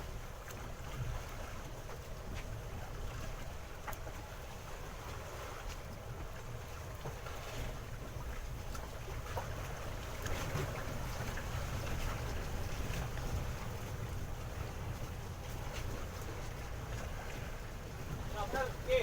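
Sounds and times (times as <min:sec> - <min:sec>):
faint water sounds: 0:00.0 - 0:19.0.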